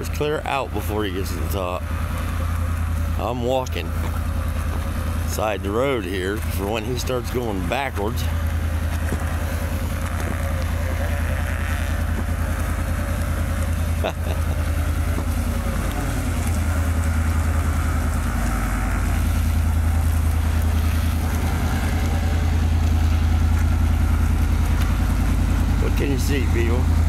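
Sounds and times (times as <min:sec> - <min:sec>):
truck engine straining: 0:00.0 - 0:27.0
tyres spinning: 0:00.0 - 0:27.0.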